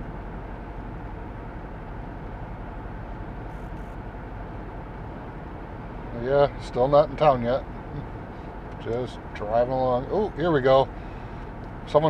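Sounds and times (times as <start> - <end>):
road and engine noise in vehicle: 0.0 - 12.0.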